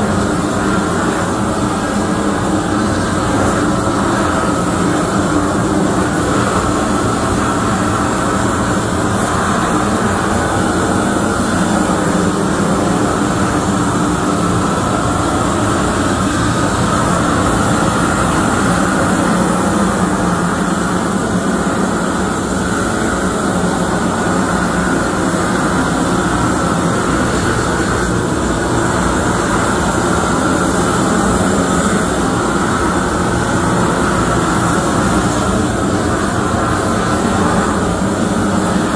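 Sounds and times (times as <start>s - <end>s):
propane torch flame rushing: 0.0s - 38.9s.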